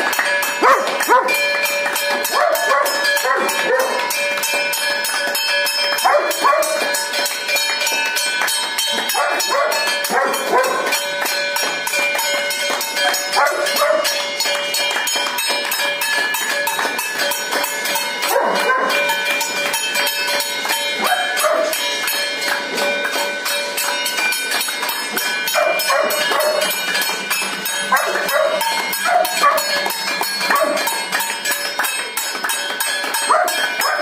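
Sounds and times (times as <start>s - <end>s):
hands clapping: 0.0s - 34.0s
metal bells ringing: 0.0s - 34.0s.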